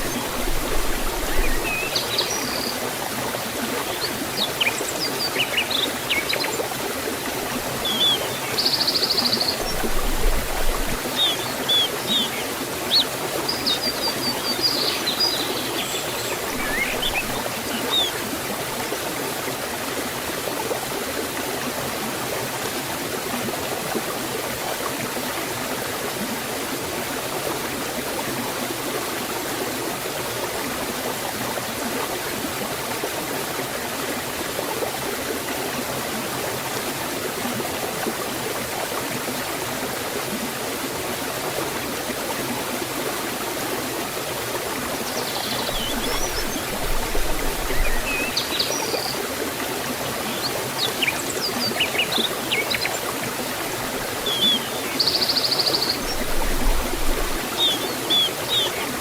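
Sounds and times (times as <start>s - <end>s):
water rushing over waterfall: 0.0s - 59.0s.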